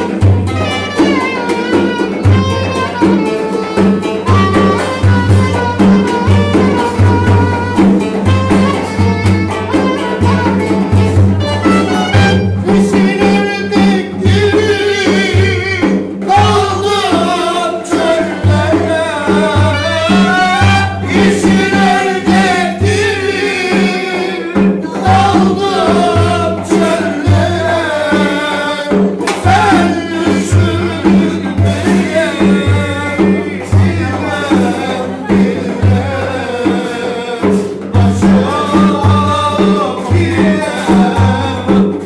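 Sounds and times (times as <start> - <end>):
hand drum beating: 0.0 - 42.0
men singing: 0.0 - 42.0.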